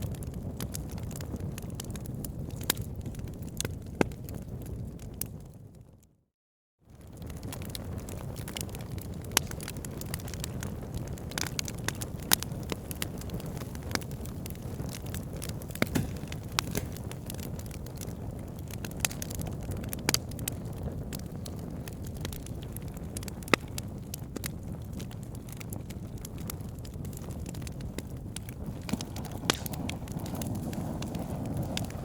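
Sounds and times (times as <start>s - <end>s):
wood crackling and popping: 0.0s - 5.5s, 6.9s - 32.0s
fire rumbling: 0.0s - 6.0s, 6.9s - 32.0s.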